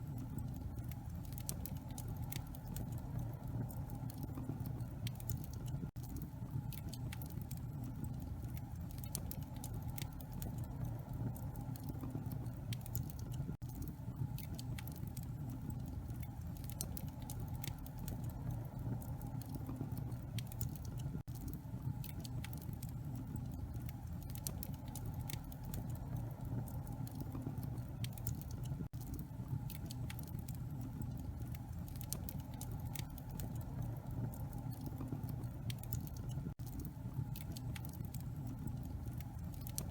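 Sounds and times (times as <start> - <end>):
low steady rumble: 0.0 - 39.9
wood fire crackling: 0.0 - 39.9.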